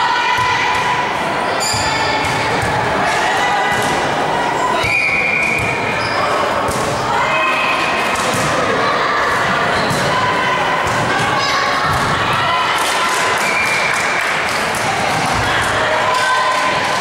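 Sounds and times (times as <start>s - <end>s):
voices and shouts: 0.0s - 17.0s.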